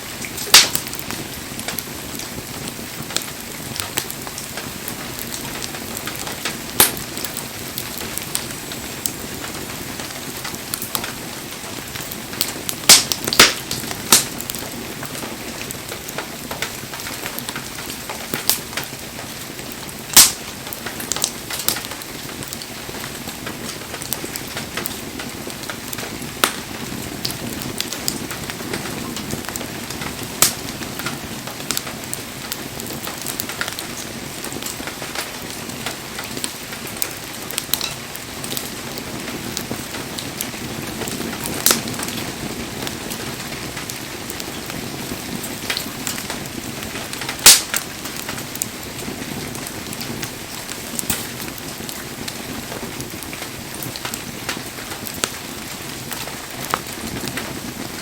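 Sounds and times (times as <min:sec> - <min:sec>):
bonfire crackling: 0:00.0 - 0:58.0.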